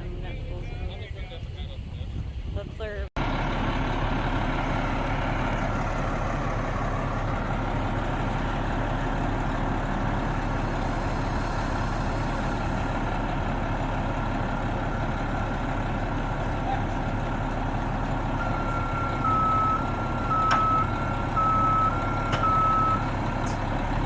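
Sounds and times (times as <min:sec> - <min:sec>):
large engine running: 0:03.2 - 0:24.0.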